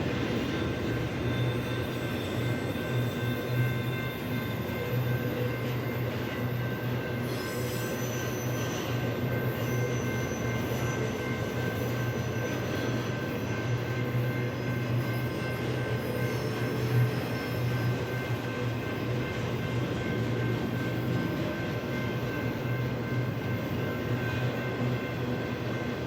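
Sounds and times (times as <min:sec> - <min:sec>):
train low rumble: 0:00.0 - 0:26.0
train wheels squealing: 0:00.0 - 0:26.0.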